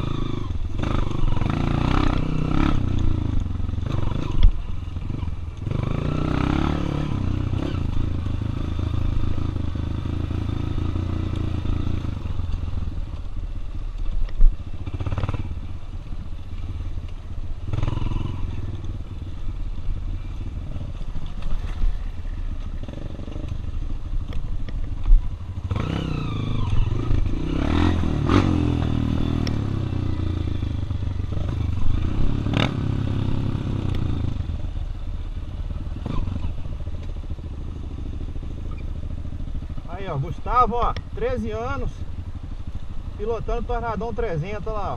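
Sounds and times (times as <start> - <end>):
motorbike engine revving: 0.0 - 13.0, 14.6 - 15.8, 17.5 - 44.9.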